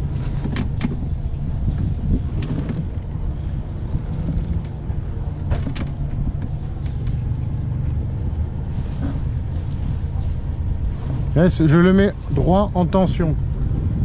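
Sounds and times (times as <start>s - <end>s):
boat engine running at low revs: 0.0s - 14.0s.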